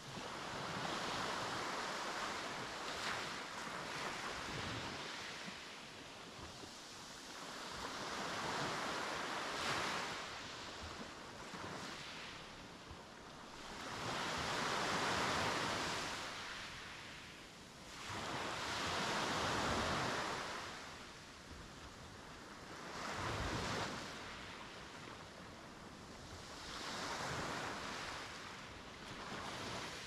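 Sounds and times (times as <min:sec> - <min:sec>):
sea waves breaking on beach: 0:00.1 - 0:30.0.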